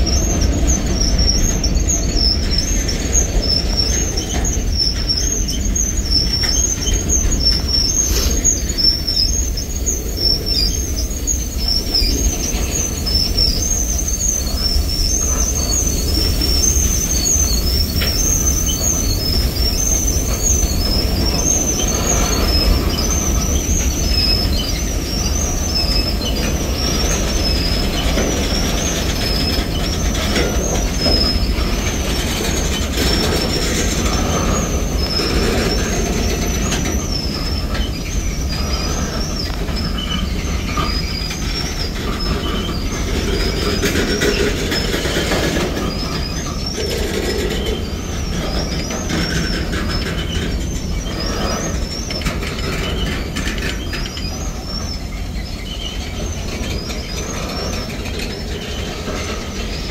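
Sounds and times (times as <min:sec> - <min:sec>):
high-pitched wheel squeal: 0:00.0 - 0:59.9
train wheels rumbling on rail: 0:00.0 - 0:59.9.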